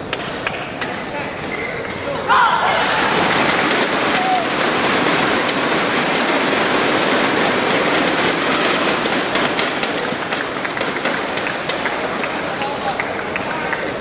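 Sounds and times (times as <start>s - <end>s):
arena crowd din: 0.0s - 14.0s.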